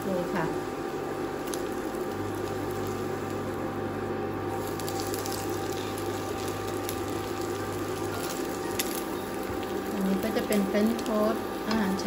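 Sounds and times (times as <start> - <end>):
bread frying in butter: 0.0 - 12.0
low steady hum: 0.0 - 12.0.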